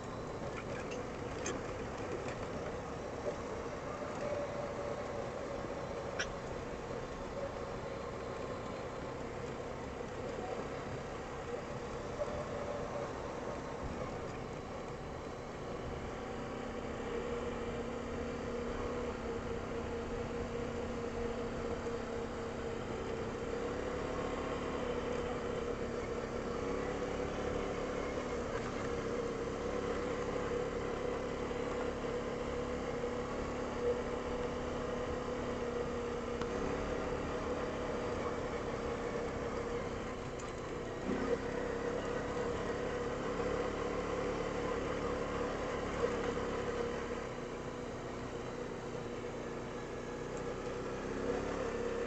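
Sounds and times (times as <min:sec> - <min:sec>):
atv engine running: 0:00.0 - 0:52.0
tyres on gravel road: 0:00.0 - 0:52.0.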